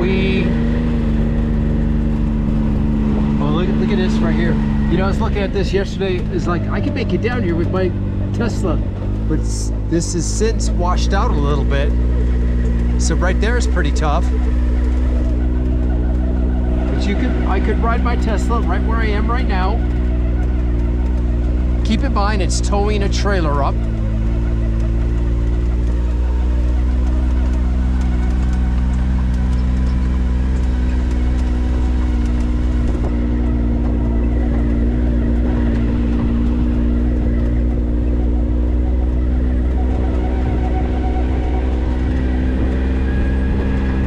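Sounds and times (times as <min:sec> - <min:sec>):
vehicle engine drone: 0:00.0 - 0:44.0.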